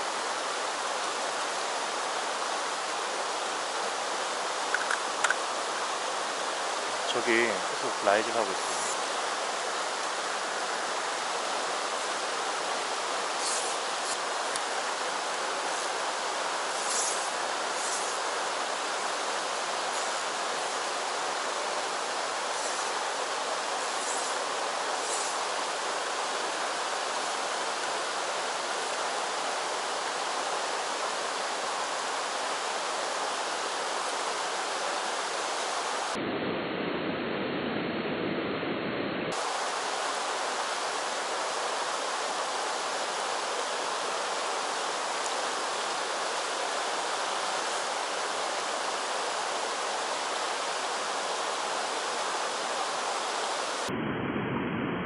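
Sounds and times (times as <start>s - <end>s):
stream rushing over rocks: 0.0s - 36.2s, 39.3s - 53.9s.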